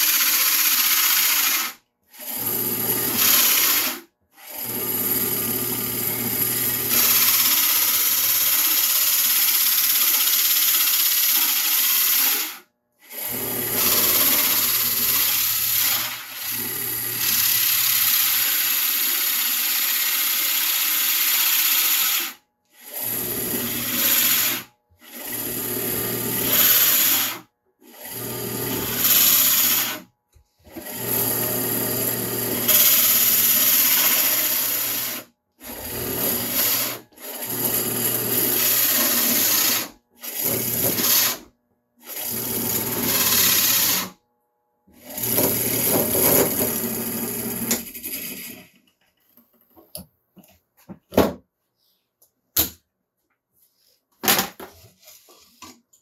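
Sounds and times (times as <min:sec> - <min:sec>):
power drill boring into wood: 0:00.0 - 0:30.1, 0:30.7 - 0:44.2, 0:45.0 - 0:48.7.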